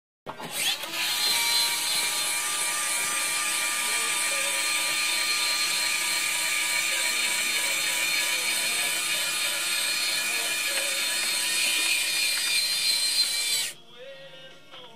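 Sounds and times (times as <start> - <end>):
small electric motor whining: 0.4 - 13.8.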